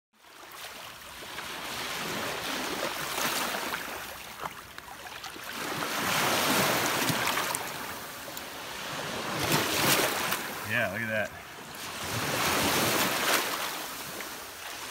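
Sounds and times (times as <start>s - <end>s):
small waves washing over sand: 0.2s - 14.9s.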